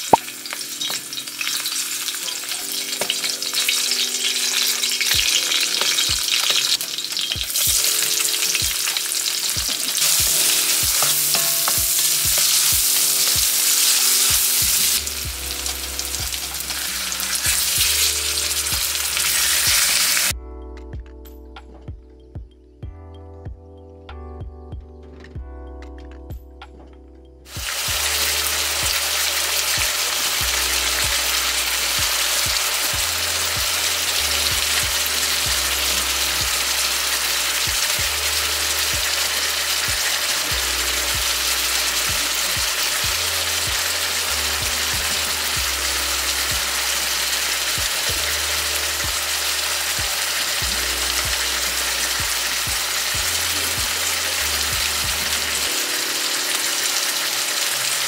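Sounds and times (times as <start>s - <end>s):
food sizzling in hot oil: 0.0s - 20.3s, 27.5s - 58.0s
bass line background music: 0.0s - 58.0s.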